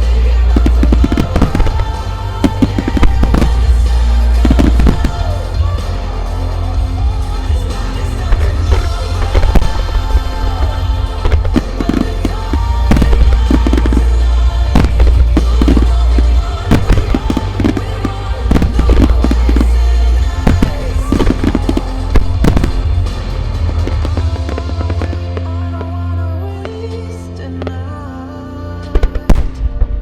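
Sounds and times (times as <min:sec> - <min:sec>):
fireworks bursting: 0:00.0 - 0:06.5, 0:07.5 - 0:27.0
loud music with heavy bass: 0:00.0 - 0:30.0.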